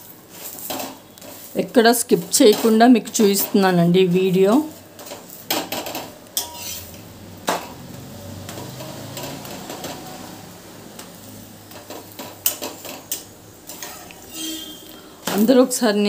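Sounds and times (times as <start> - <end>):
spatula scraping on griddle: 0.0 - 15.8
oil sizzling: 0.0 - 16.0.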